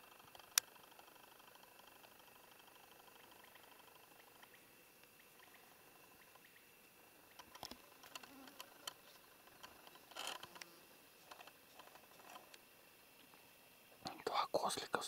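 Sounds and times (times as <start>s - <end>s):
rustle: 0.0s - 15.0s.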